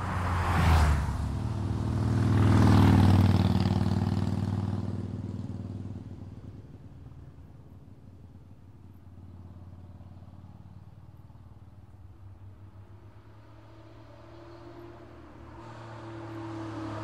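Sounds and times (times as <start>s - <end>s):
faint road noise: 0.0s - 17.0s.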